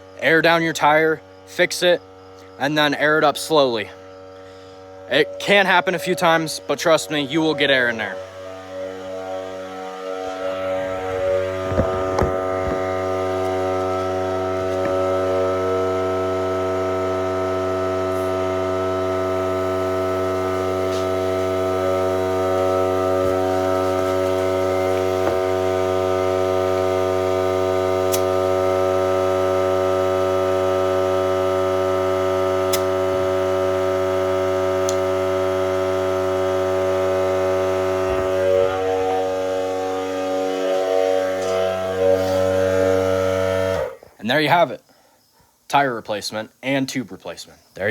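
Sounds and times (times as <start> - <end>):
air compressor humming: 0.0 - 44.3.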